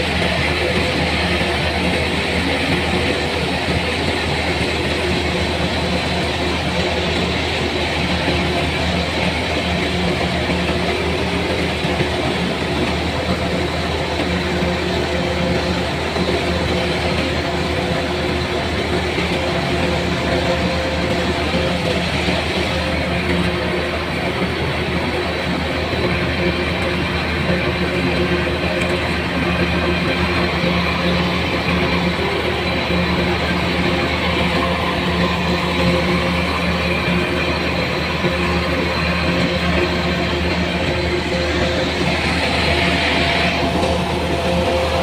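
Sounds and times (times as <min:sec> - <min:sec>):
engine humming steadily: 0:00.0 - 0:45.0.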